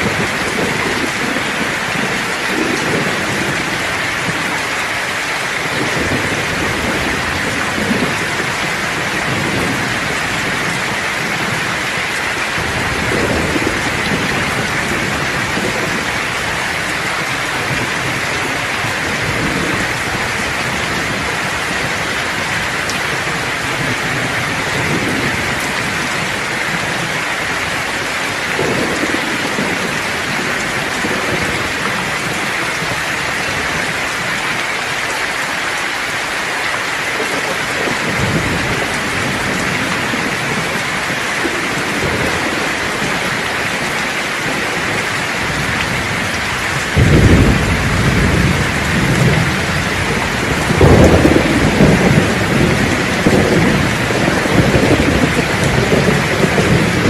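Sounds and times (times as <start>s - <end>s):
rolling thunder: 0.0s - 34.5s, 37.2s - 57.0s
heavy rain falling: 0.0s - 57.0s.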